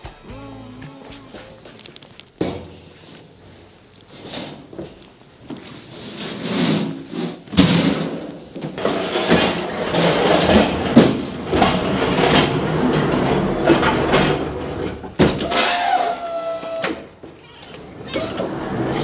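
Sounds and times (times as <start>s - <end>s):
pallet jack wheels rumbling: 1.7s - 19.0s.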